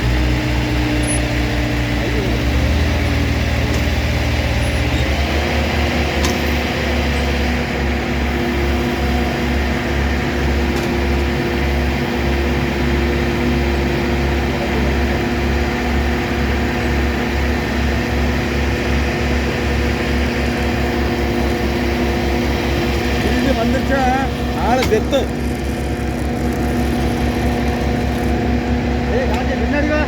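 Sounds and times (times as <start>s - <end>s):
heavy vehicle engine running: 0.0s - 30.0s.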